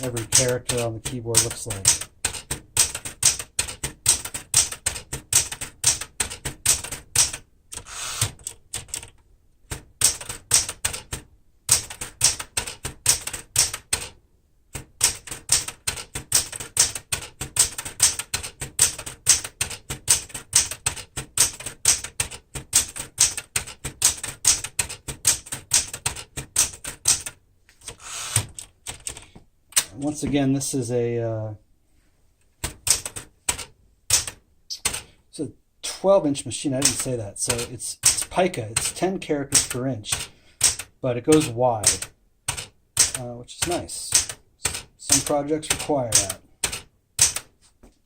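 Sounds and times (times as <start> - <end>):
manual typewriter typing: 0.0 - 30.2, 32.6 - 35.2, 36.8 - 47.5.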